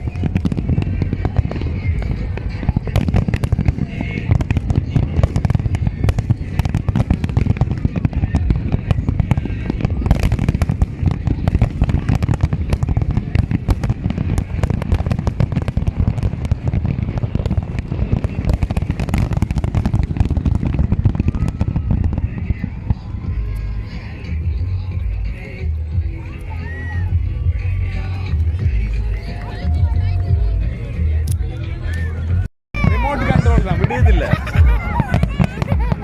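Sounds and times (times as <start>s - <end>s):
fireworks bangs and pops: 0.0s - 31.4s, 32.8s - 36.0s.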